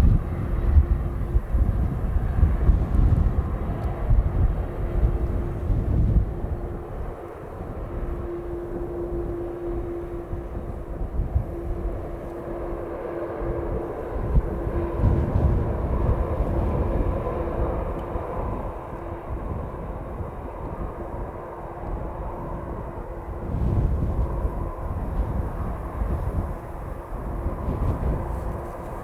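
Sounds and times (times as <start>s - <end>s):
jet engines running: 0.0s - 29.0s
wind buffeting microphone: 0.0s - 29.0s.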